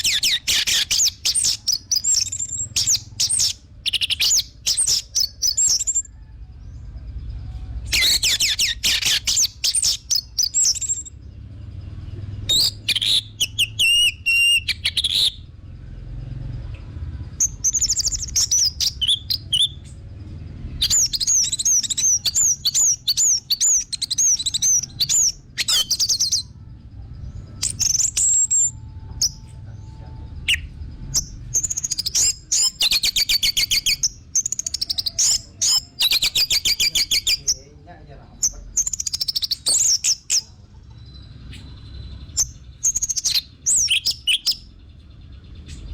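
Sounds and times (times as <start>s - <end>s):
faint low hum: 0.0s - 45.9s.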